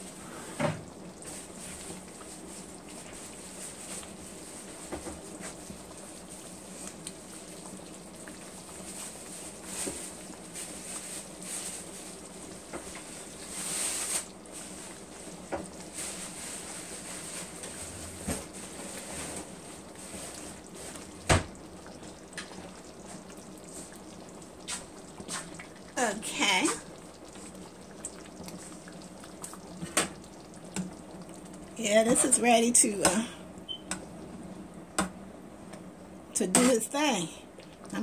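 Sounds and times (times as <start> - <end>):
sauce simmering with bubbles popping: 0.0 - 36.3, 37.5 - 38.0.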